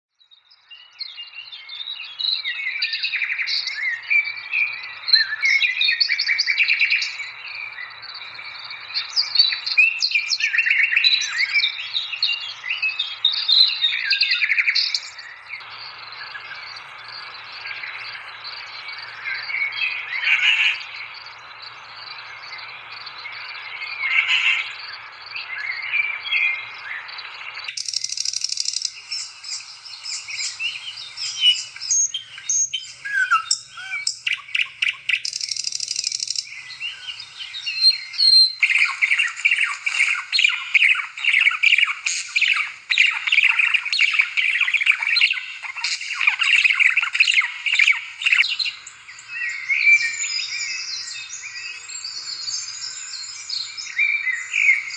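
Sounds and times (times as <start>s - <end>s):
birds chirping: 0.3s - 54.9s.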